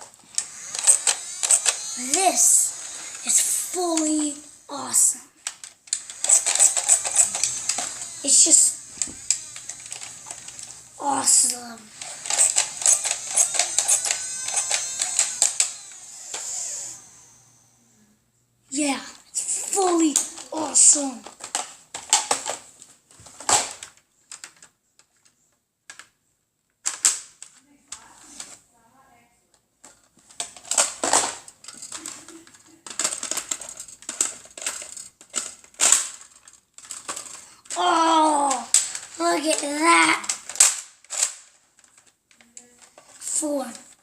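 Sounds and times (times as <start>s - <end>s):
toy blaster plastic clicking: 0.0s - 17.4s, 19.4s - 22.6s, 26.8s - 28.0s, 30.3s - 44.0s.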